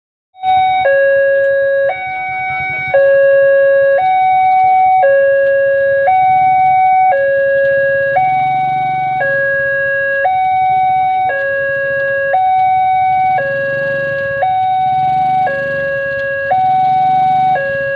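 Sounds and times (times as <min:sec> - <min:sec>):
level crossing two-tone alarm: 0:00.4 - 0:17.9.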